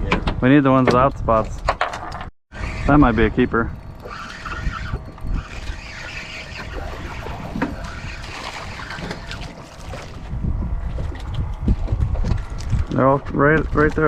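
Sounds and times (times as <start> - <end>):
wind buffeting microphone: 2.5 - 14.0.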